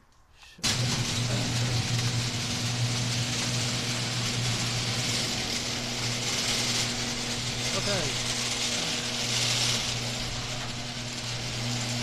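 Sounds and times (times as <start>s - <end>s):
machine running with low hum: 0.6s - 12.0s.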